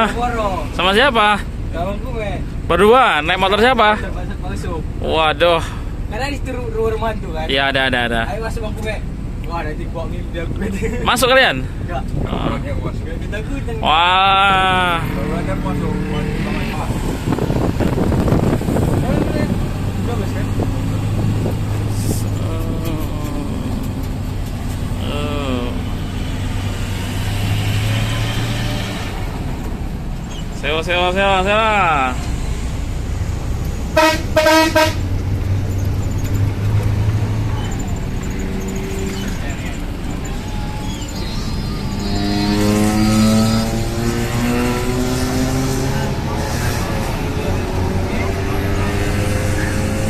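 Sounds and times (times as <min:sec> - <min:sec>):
bus engine droning: 0:00.0 - 0:50.0
road noise: 0:00.0 - 0:50.0.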